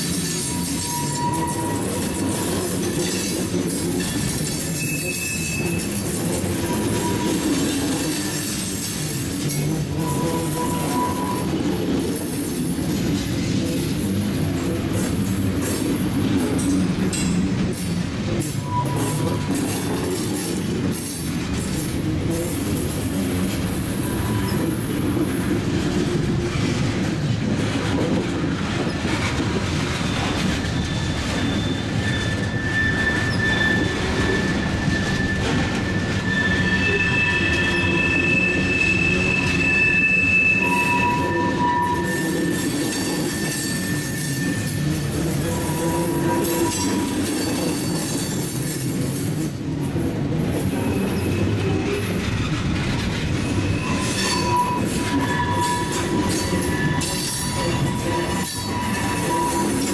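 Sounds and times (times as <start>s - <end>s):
high thin wheel squeals: 0.0s - 25.9s, 29.0s - 49.6s, 50.4s - 59.9s
freight train rolling over rails: 0.0s - 59.9s.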